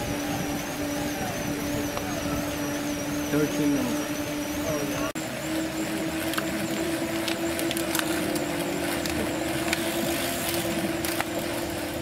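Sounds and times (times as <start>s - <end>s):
bicycle trainers whining: 0.0s - 12.0s.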